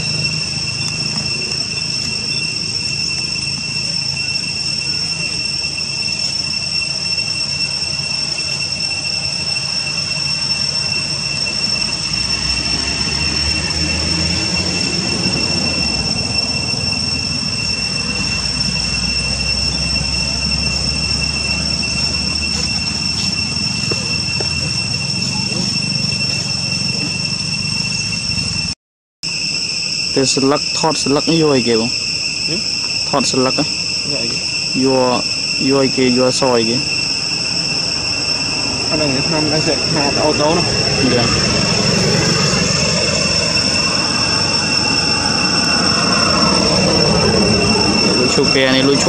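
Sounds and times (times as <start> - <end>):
cicadas droning: 0.0 - 49.0.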